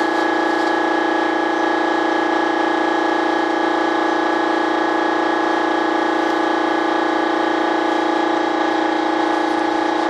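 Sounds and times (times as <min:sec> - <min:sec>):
machine drone with high whine: 0:00.0 - 0:10.0.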